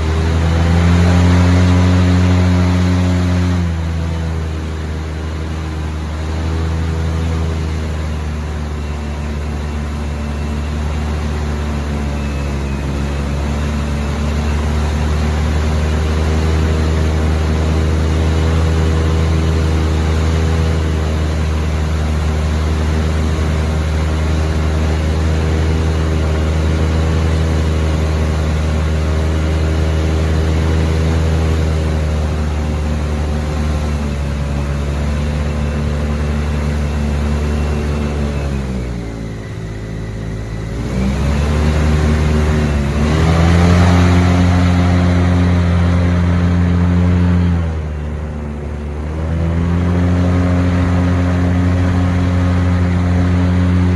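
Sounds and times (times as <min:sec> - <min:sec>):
airboat engine and propeller drone: 0:00.0 - 0:53.9.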